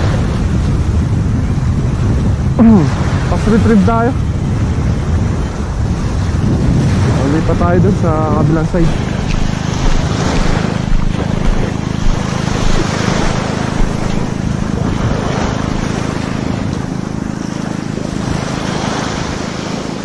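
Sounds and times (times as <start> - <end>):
small waves washing on shore: 0.0 - 20.0
wind noise on microphone: 0.0 - 20.0.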